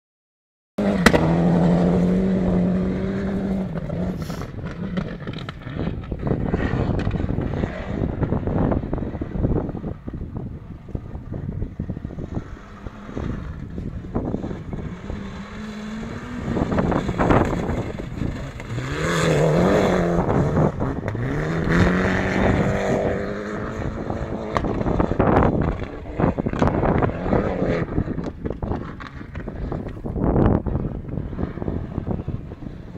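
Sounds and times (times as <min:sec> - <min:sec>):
rally car engine revving: 0:00.8 - 0:32.9
wind buffeting microphone: 0:01.0 - 0:32.9.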